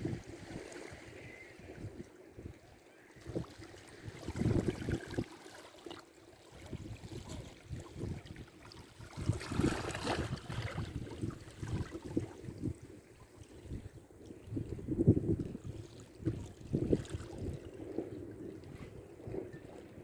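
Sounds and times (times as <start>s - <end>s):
wind buffeting microphone: 0.0s - 2.5s, 3.2s - 5.3s, 6.6s - 20.0s.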